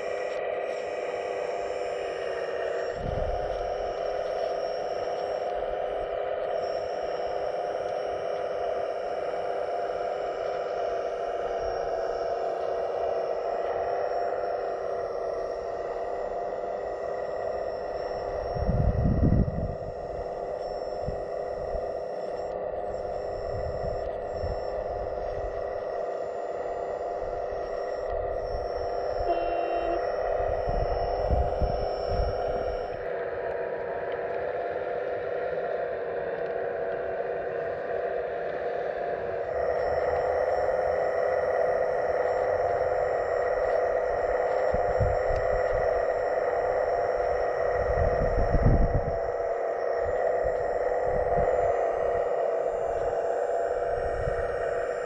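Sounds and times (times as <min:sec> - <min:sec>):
hydraulic pump whining: 0:00.0 - 0:55.0
low machine rumbles: 0:00.0 - 0:55.0.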